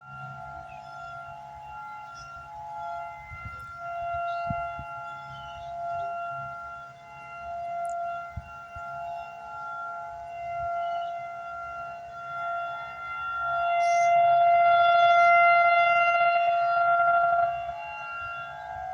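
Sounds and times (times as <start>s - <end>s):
warning siren steady tone: 0.0s - 18.9s.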